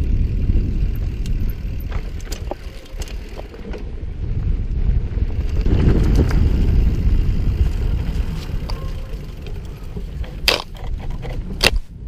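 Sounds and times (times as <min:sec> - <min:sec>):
clicks and rattles over rough ground: 0:00.0 - 0:12.0
wind buffeting microphone: 0:00.0 - 0:12.0.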